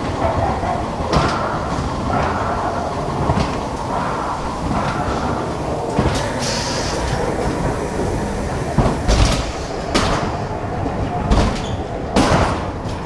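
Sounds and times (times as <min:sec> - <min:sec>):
ride car rattling on rail track: 0:00.0 - 0:13.0.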